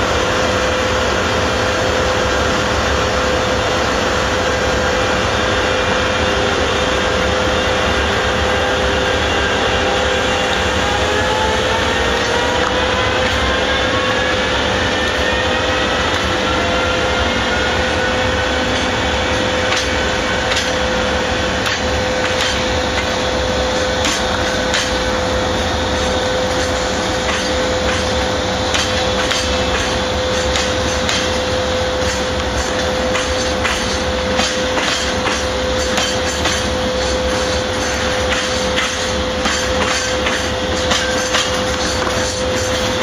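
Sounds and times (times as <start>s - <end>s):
freight train rumbling: 0.0s - 43.0s
rising whine: 0.0s - 43.0s.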